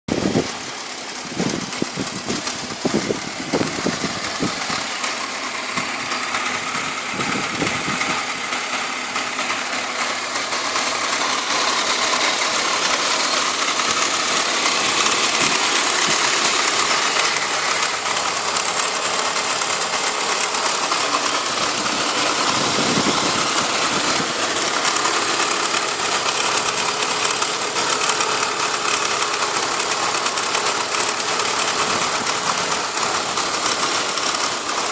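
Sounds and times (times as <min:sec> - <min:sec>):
car engine idling: 0:00.1 - 0:34.9
engine ticking: 0:00.1 - 0:34.9.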